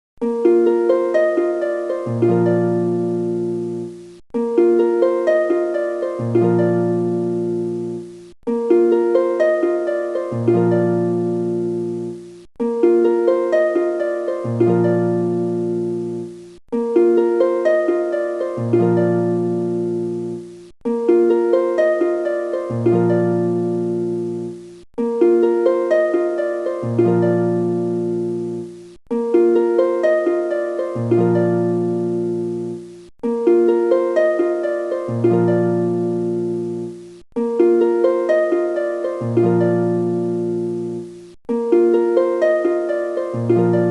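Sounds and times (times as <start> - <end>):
plucked harp-like notes: 0.2 - 43.9.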